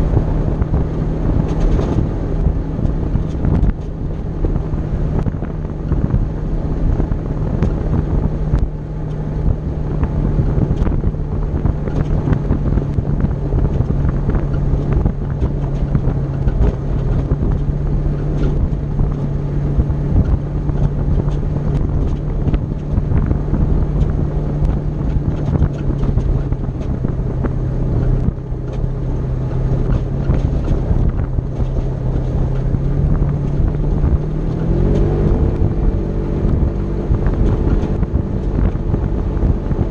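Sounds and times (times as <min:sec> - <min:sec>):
vehicle engine drone: 0:00.0 - 0:39.9
wind buffeting microphone: 0:00.0 - 0:39.9.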